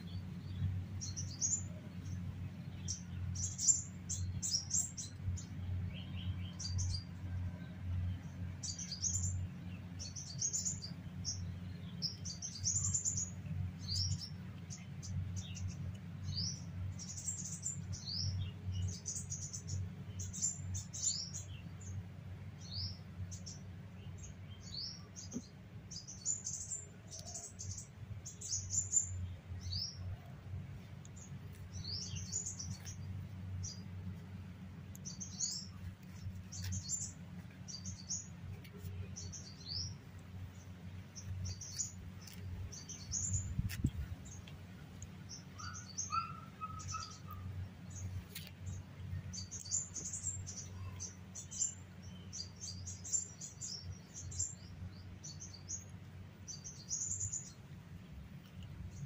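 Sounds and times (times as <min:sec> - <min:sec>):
low background rumble: 0:00.0 - 0:59.0
small birds chirping: 0:00.0 - 0:59.0.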